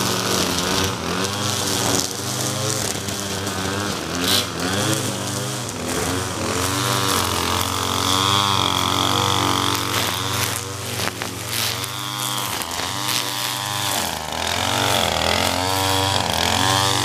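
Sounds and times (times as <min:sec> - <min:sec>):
line cutting grass: 0:00.0 - 0:17.0
string trimmer engine revving: 0:00.0 - 0:17.0.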